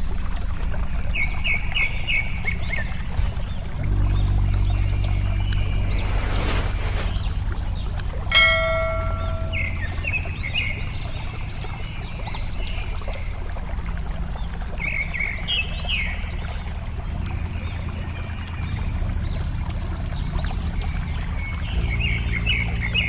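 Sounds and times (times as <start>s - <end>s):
water flowing: 0.0s - 23.0s.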